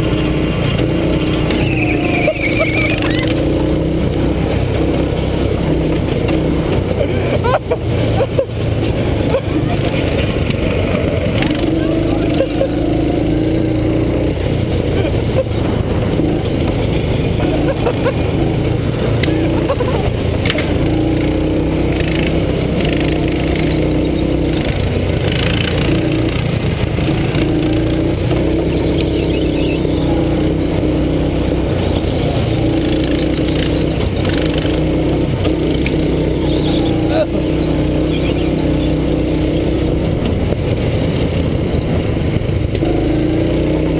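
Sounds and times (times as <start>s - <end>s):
go-kart engine running hard: 0.0s - 43.9s.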